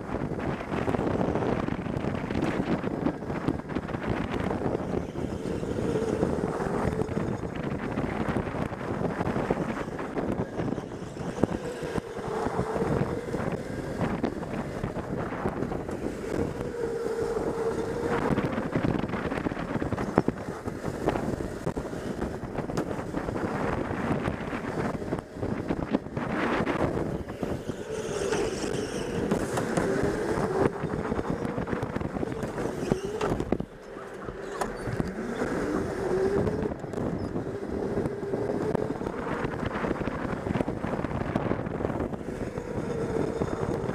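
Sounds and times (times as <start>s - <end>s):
go-kart running noise: 0.0s - 43.9s
wind rushing over microphone: 0.0s - 43.9s.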